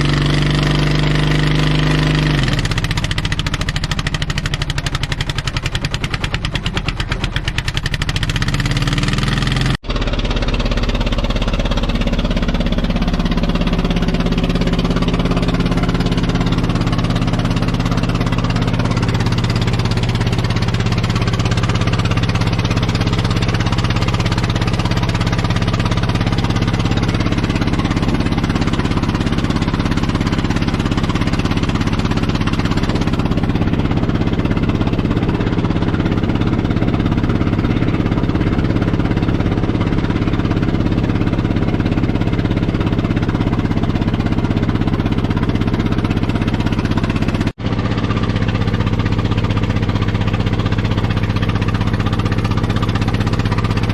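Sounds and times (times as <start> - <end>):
bulldozer engine running: 0.0 - 53.9.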